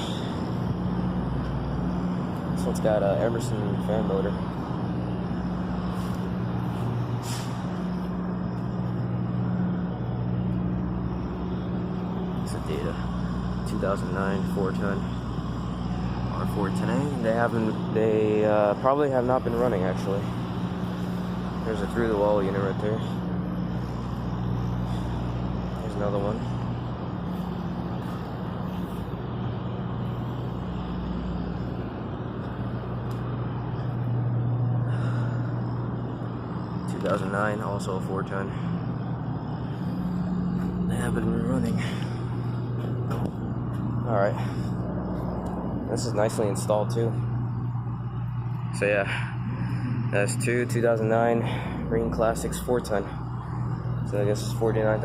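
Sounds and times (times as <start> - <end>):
low machinery hum: 0.0 - 55.0
rushing background noise: 0.0 - 55.0.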